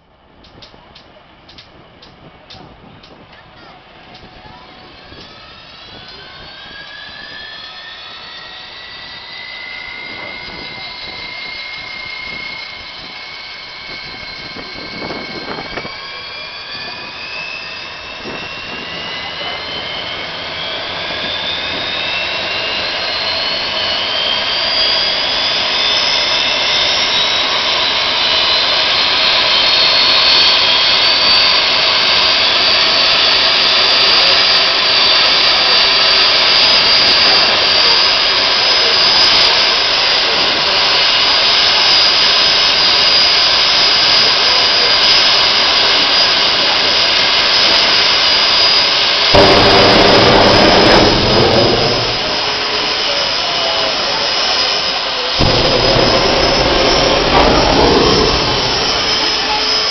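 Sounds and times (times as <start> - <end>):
jet engine spooling up: 0.6 - 59.9.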